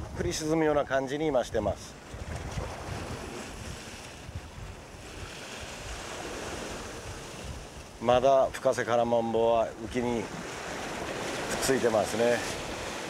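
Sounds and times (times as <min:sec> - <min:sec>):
sea waves on rocky shore: 0:00.0 - 0:13.0
wind rumbling on microphone: 0:00.0 - 0:13.0.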